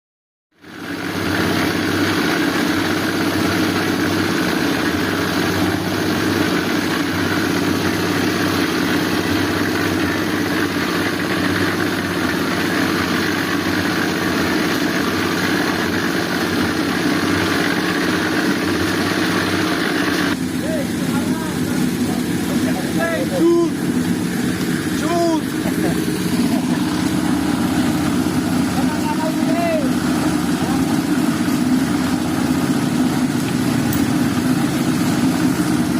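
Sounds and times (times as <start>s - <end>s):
small engine running: 0.6s - 35.9s.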